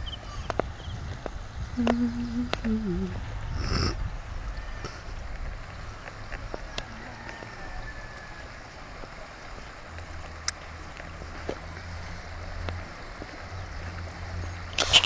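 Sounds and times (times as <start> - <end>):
low steady rumble: 0.0 - 14.8
floodwater rushing: 0.0 - 15.0.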